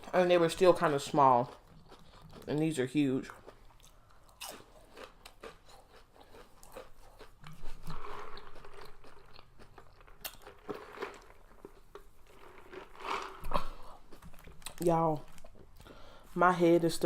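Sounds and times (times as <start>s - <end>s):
person chewing crunchy food: 0.0s - 16.3s.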